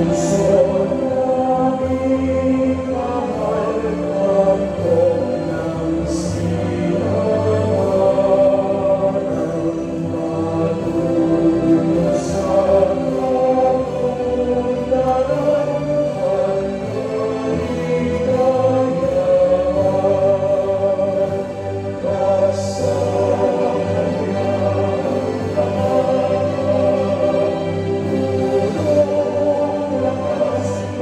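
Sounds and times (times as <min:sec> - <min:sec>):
choir singing held notes: 0:00.0 - 0:31.0.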